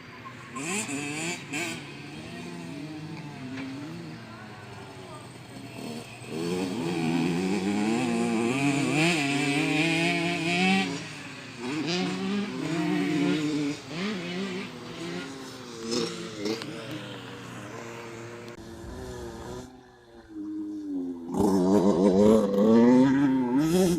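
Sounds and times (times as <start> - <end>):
motorbike engine revving: 0.2 - 23.9.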